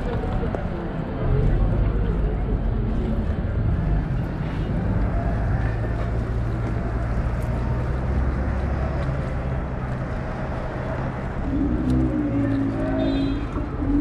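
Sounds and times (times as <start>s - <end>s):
engine hum: 0.0s - 14.0s
street traffic rumble: 0.0s - 14.0s.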